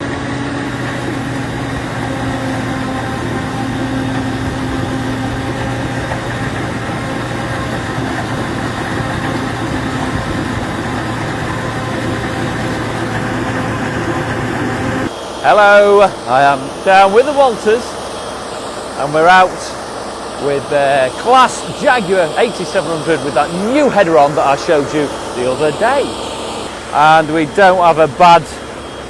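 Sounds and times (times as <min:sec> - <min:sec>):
diesel engine running steadily: 0:00.0 - 0:29.0.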